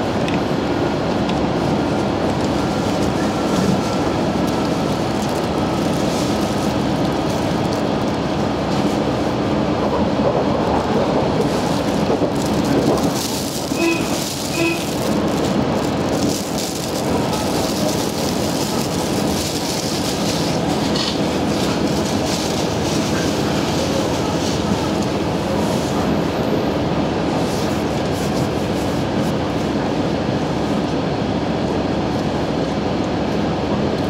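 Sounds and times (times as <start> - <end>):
railcar rumble on rails: 0.0 - 34.0.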